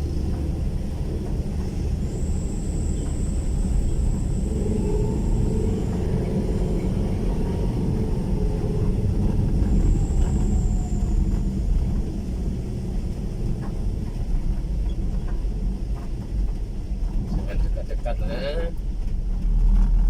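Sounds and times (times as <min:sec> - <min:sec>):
road noise: 0:00.0 - 0:20.0
vehicle engine rumble: 0:00.0 - 0:20.0.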